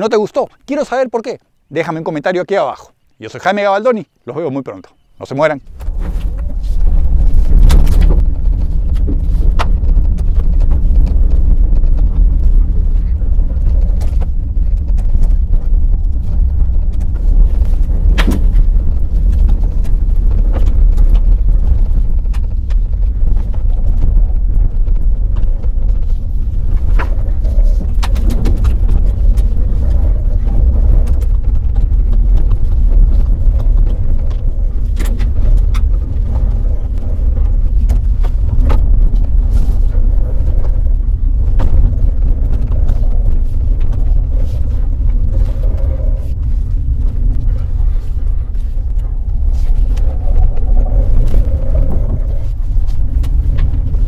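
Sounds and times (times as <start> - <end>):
tyre and wind rumble: 0.0 - 54.0.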